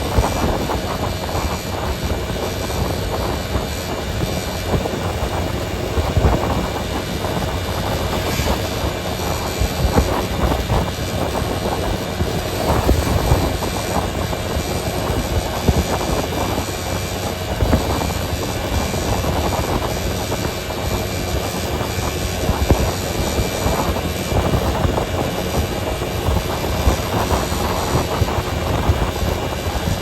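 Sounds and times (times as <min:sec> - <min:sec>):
vehicle road noise rumble: 0:00.0 - 0:30.0.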